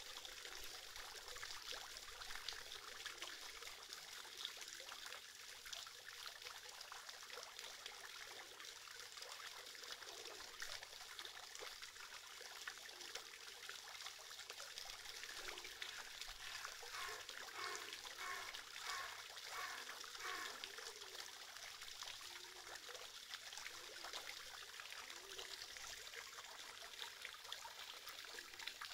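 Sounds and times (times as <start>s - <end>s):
fountain splashing into basin: 0.0s - 28.9s.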